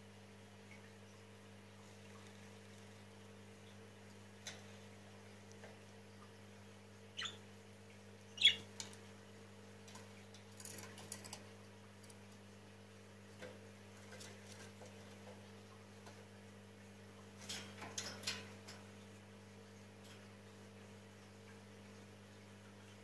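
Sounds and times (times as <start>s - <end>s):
aquarium equipment humming: 0.0s - 23.0s.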